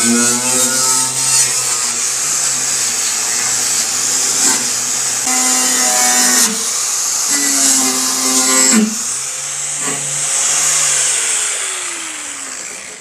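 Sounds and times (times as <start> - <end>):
power tool on steel panel: 0.0 - 13.0.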